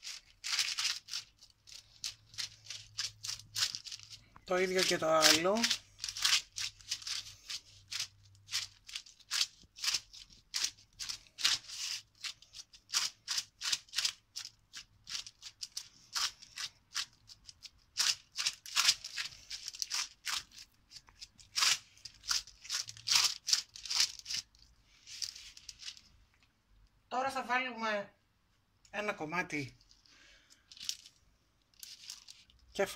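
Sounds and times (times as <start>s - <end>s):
parchment paper crinkling: 0.0s - 26.5s, 29.8s - 32.9s.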